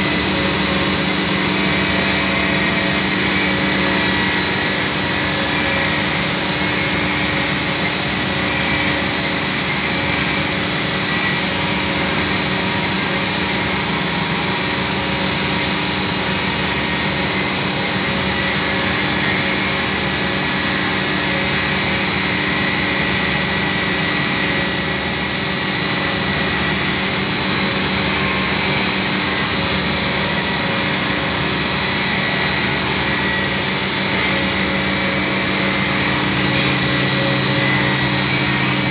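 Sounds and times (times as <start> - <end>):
machinery hum with whining tones: 0.0 - 38.9.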